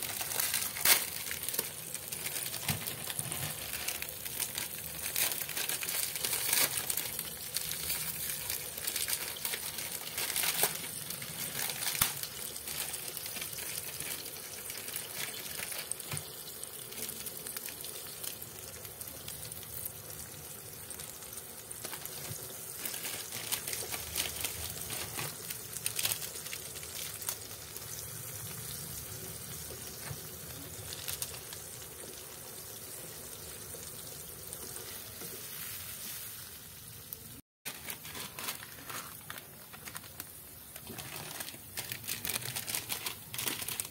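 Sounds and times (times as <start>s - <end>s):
broth bubbling and sizzling: 0.0s - 43.9s.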